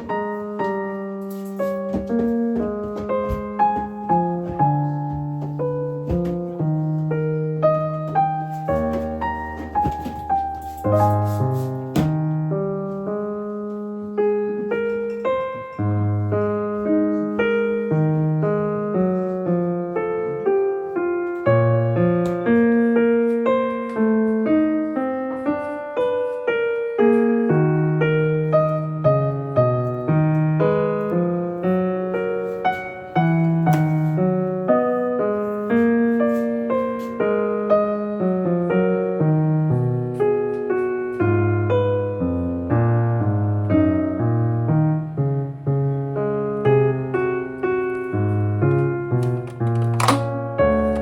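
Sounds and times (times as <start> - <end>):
gentle solo piano melody: 0.0 - 51.0.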